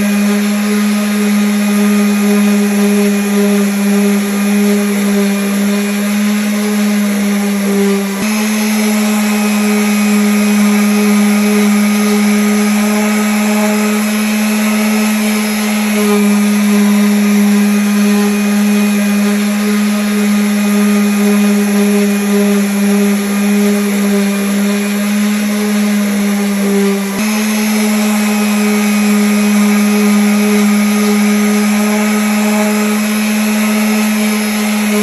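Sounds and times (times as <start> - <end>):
electric sander on wood: 0.0 - 35.0.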